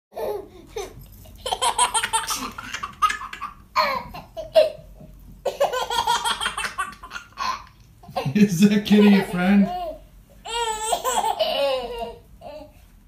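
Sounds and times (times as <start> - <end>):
baby laughing: 0.2 - 12.7.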